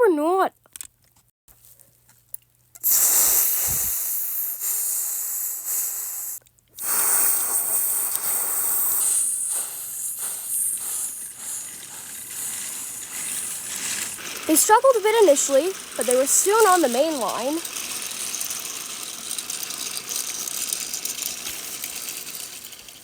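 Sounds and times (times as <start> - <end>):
steam engines pulling away: 2.8 - 23.0
steam hissing: 2.8 - 23.0.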